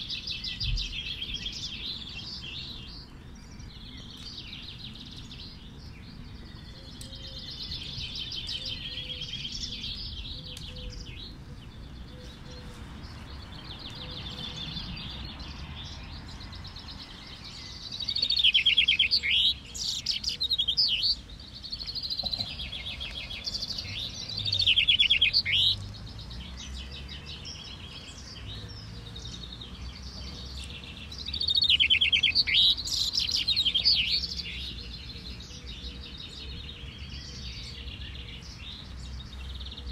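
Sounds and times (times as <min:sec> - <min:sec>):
chaffinches singing: 0:00.0 - 0:39.9.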